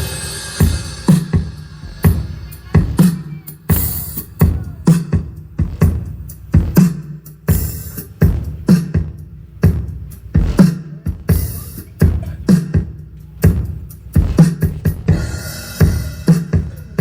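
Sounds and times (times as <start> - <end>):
dance music with heavy bass: 0.0 - 17.0.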